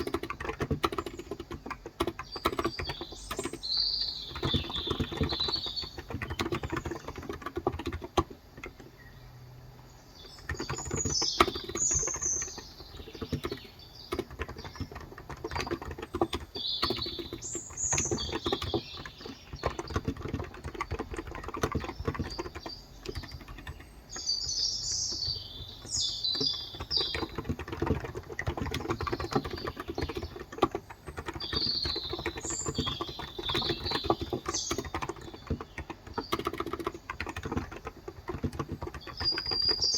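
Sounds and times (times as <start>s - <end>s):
keyboard typing: 0.0s - 9.1s, 10.2s - 39.9s
small birds chirping: 0.0s - 39.9s.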